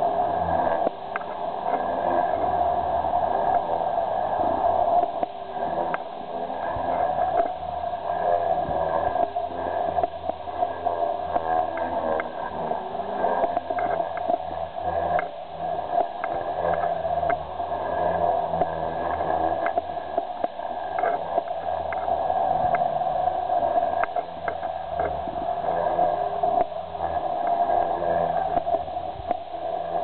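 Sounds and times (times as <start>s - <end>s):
rc helicopter rotor whine: 0.0s - 30.0s.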